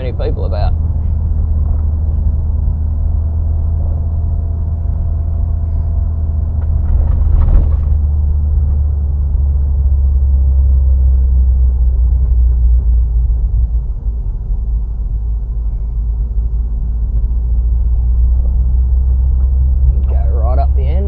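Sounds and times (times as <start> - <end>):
engine rumble inside cab: 0.0 - 21.0
road noise: 0.0 - 21.0.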